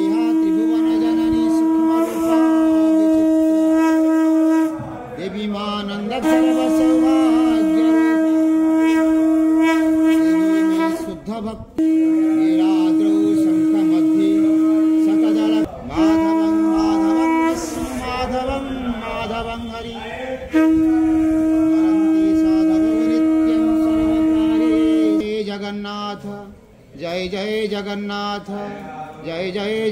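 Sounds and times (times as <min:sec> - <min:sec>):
conch shell blasts: 0:00.0 - 0:05.2, 0:06.1 - 0:25.2.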